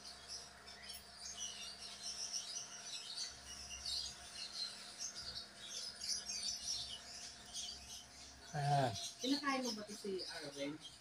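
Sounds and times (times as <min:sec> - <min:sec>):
birds chirping: 0:00.0 - 0:11.0
faint steady hum: 0:00.0 - 0:11.0.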